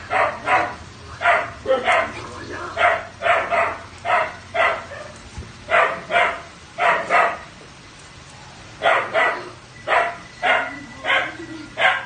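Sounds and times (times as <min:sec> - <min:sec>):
dog barking: 0:00.1 - 0:02.2, 0:02.8 - 0:07.4, 0:08.8 - 0:12.0.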